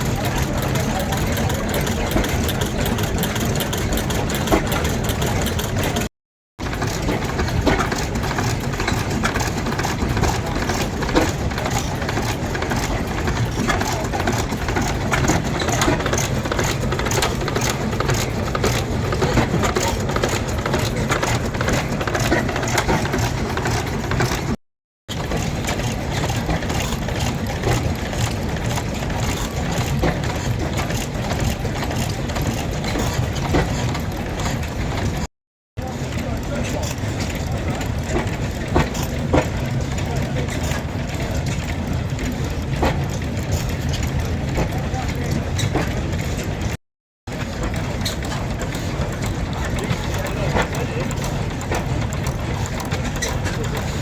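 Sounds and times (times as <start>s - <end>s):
engine clattering: 0.0s - 54.0s.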